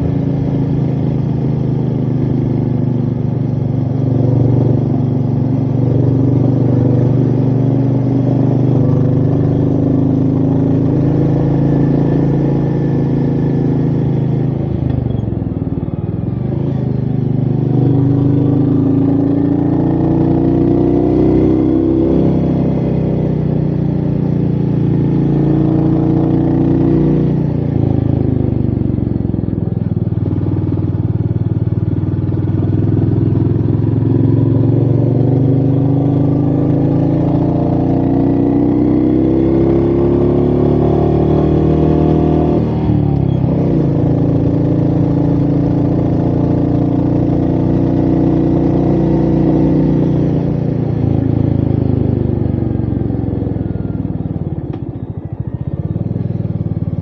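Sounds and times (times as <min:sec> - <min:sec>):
motorcycle engine running under load: 0:00.0 - 0:57.0.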